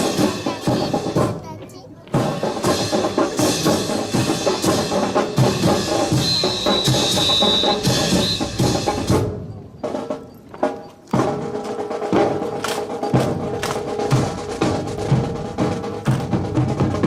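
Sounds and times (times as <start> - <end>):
drums and percussion music: 0.0 - 17.0.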